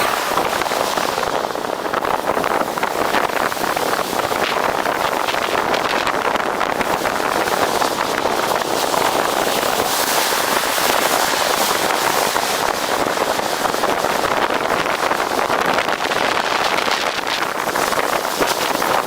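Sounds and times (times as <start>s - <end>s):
vehicle road and wind noise: 0.0s - 19.0s.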